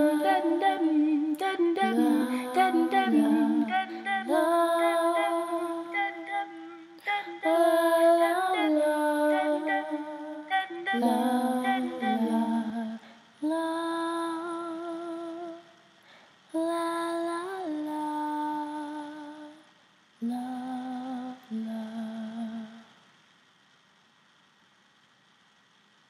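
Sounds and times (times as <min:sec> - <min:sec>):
woman singing a cappella: 0:00.0 - 0:15.8, 0:16.5 - 0:23.0.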